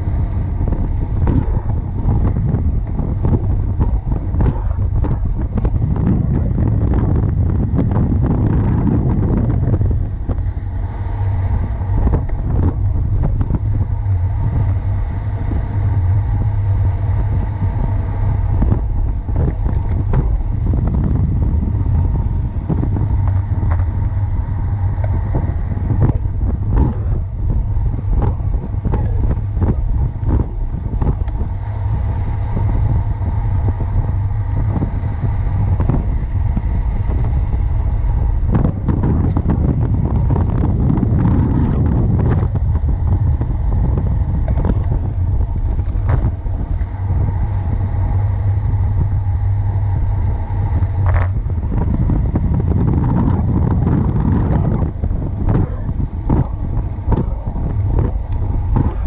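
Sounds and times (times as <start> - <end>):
road and tyre rumble: 0.0 - 59.0
wind buffeting microphone: 0.0 - 59.0.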